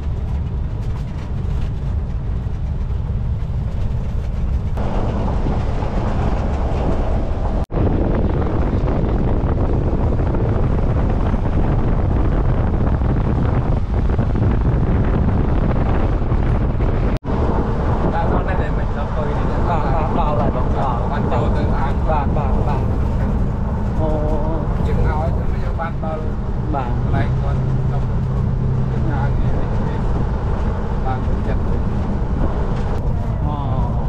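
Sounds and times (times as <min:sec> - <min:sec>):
vehicle rumbling in motion: 0:00.0 - 0:34.0
wind noise on microphone: 0:00.0 - 0:34.0.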